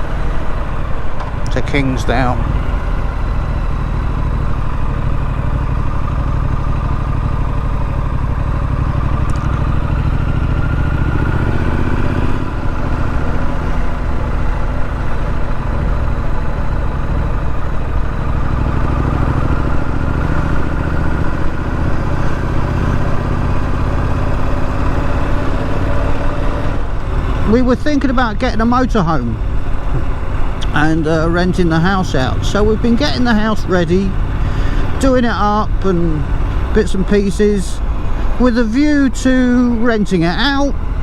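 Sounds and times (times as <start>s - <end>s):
motorcycle engine accelerating: 0.0s - 41.0s
wind and road noise: 0.0s - 41.0s.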